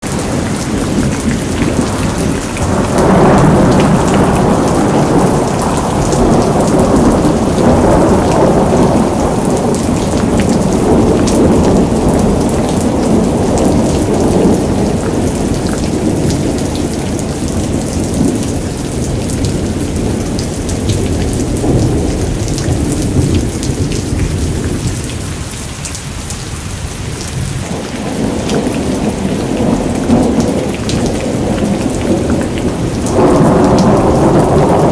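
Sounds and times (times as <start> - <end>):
rolling thunder: 0.0 - 25.7, 26.6 - 34.9
rain and hail pelting: 0.0 - 34.9.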